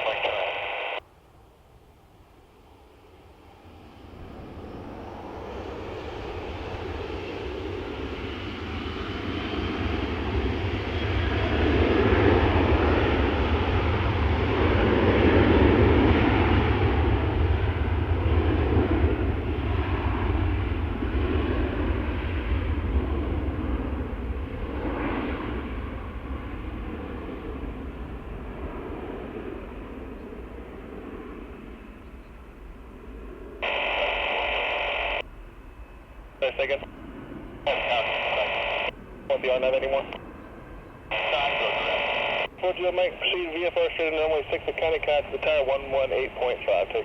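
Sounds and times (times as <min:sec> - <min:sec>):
airliner engines passing: 0:00.0 - 0:47.0.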